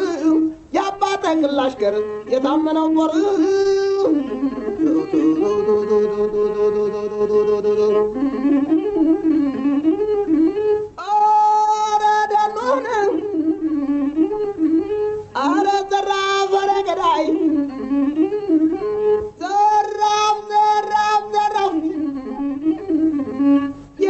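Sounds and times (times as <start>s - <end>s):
person chanting long notes: 1.8s - 11.2s, 11.9s - 24.0s.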